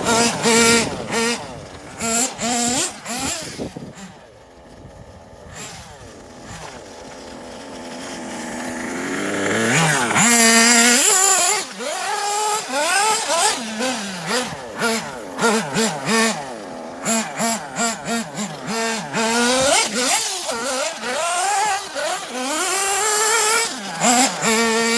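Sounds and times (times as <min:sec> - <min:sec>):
rc buggy nitro engine revving: 0:00.0 - 0:24.9.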